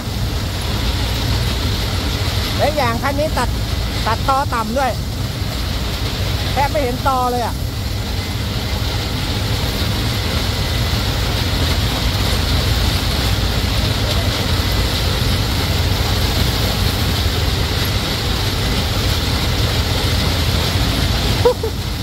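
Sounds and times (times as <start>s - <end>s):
tractor running: 0.0s - 22.0s.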